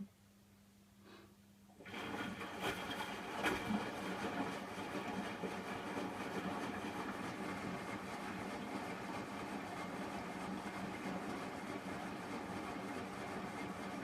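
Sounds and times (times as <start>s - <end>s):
washing machine running: 1.8s - 14.0s.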